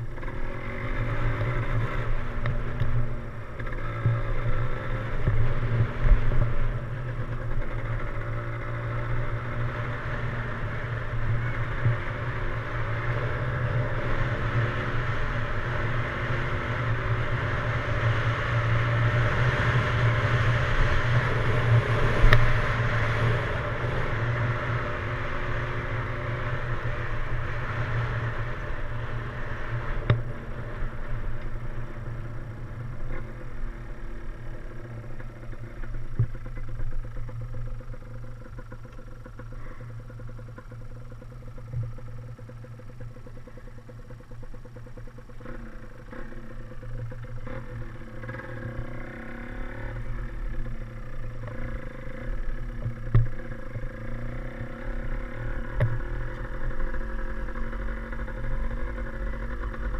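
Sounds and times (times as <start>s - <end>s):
two-stroke motorcycle engine: 0.0s - 59.9s.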